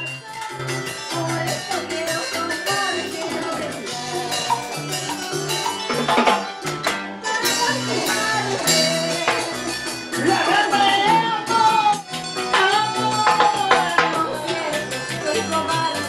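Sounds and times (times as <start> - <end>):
live band playing dance music: 0.0 - 16.0.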